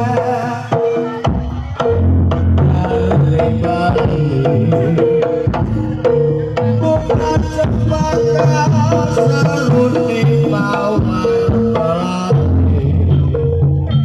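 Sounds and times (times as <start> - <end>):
hand drums striking: 0.0 - 14.0
sustained gamelan notes: 0.0 - 14.0.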